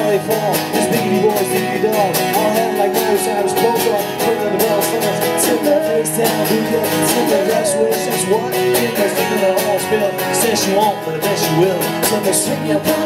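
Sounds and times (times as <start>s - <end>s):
acoustic guitars strummed: 0.0s - 13.0s
man singing: 0.0s - 13.0s.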